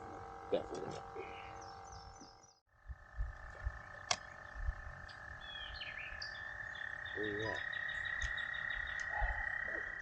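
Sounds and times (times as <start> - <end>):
chorus of frogs trilling: 0.0 - 10.0.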